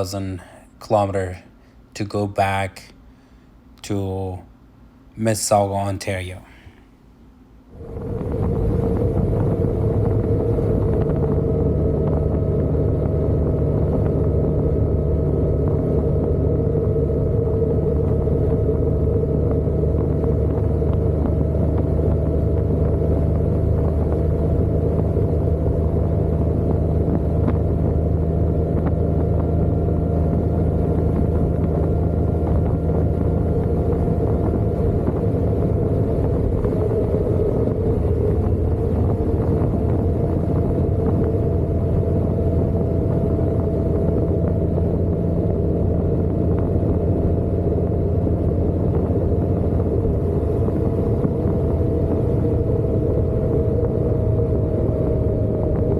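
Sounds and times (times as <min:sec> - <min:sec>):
motorcycle engine drone: 0:07.7 - 0:55.9
road and wind noise: 0:07.7 - 0:55.9.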